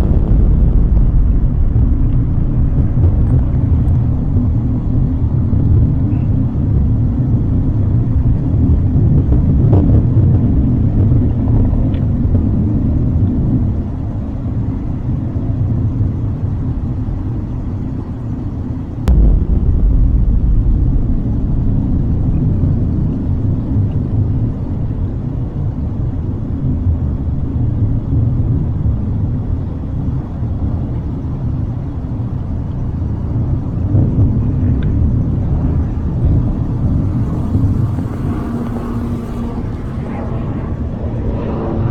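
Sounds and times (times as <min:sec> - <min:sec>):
low rumbling drone: 0:00.0 - 0:11.8, 0:16.0 - 0:41.9.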